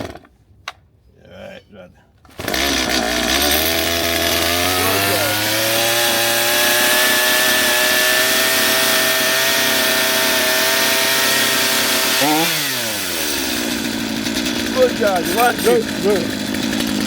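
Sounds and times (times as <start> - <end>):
chainsaw engine revving and idling: 2.4 - 17.0.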